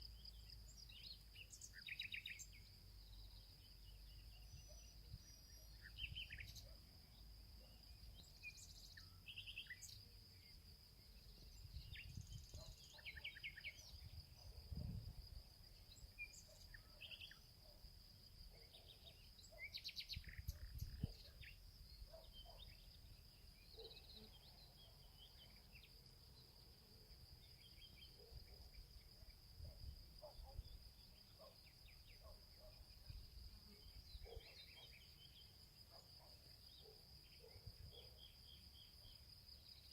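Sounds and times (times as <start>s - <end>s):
bird chirps: 0.0s - 10.1s, 11.2s - 15.0s, 15.7s - 17.8s, 18.5s - 26.0s, 27.5s - 39.2s
insect drone: 0.0s - 39.9s.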